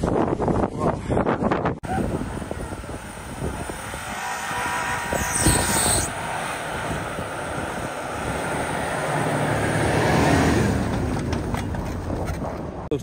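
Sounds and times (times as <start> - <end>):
engine working under load: 1.8 - 12.9
tyres churning snow: 1.8 - 13.0.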